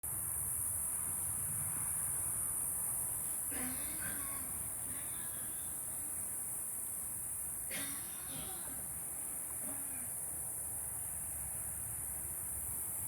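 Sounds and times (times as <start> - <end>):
insect chorus drone: 0.1 - 13.0.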